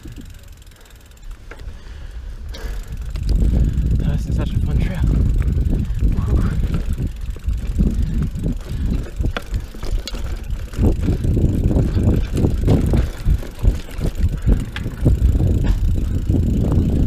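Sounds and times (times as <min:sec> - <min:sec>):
bike tyres rumbling on dirt: 0:00.0 - 0:17.0
wind on microphone: 0:02.2 - 0:17.0.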